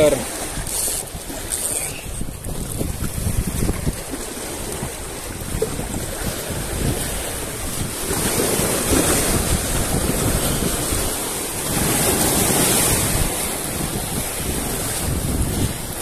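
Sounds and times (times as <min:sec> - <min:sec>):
waves washing against boulders: 0:00.0 - 0:16.0
wind buffeting microphone: 0:00.0 - 0:16.0.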